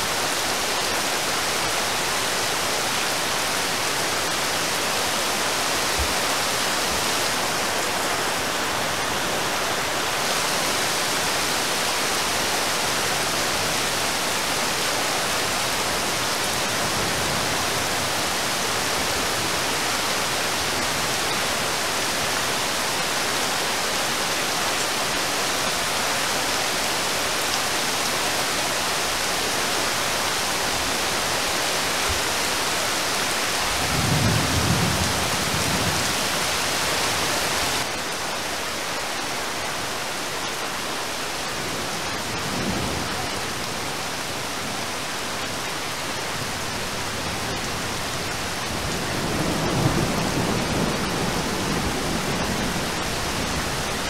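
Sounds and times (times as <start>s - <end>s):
heavy rain on river and trees: 0.0s - 54.0s.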